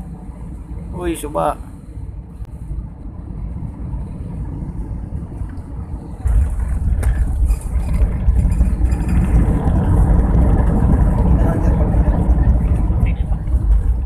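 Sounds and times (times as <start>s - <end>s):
airliner cabin rumble: 0.0s - 14.0s
wheels rolling on runway: 2.6s - 14.0s.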